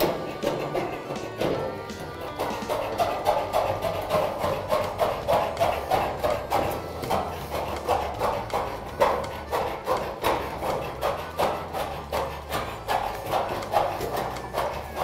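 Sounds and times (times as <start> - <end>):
metal panel being cut: 0.0 - 15.0.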